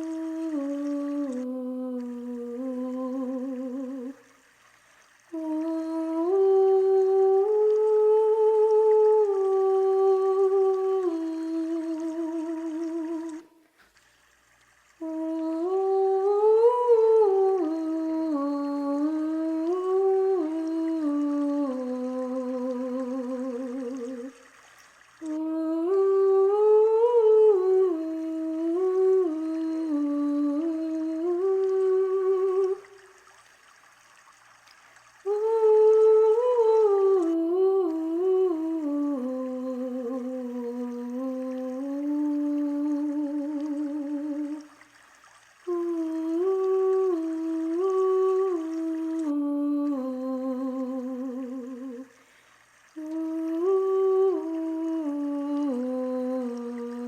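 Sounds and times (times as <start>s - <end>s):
person humming a slow chant: 0.0s - 4.2s, 5.3s - 13.6s, 15.0s - 24.4s, 25.2s - 33.0s, 35.2s - 44.8s, 45.7s - 52.2s, 53.0s - 57.0s.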